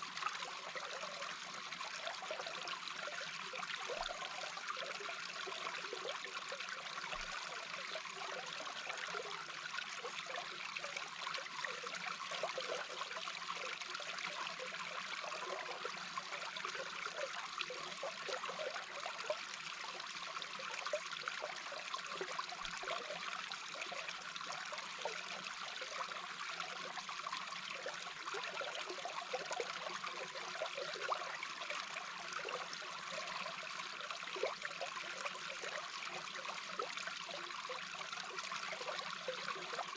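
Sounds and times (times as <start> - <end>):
underwater flowing water gurgles: 0.0 - 39.9.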